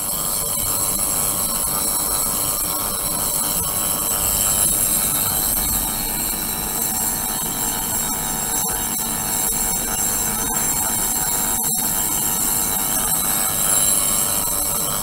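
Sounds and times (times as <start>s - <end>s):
ultrasonic cleaner hissing and whining: 0.0s - 15.0s.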